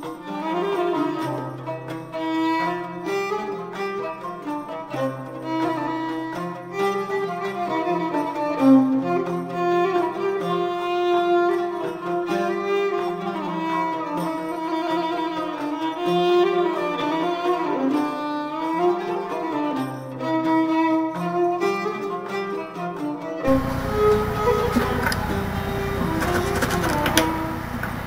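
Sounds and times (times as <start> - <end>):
bowed strings melody: 0.0 - 28.0.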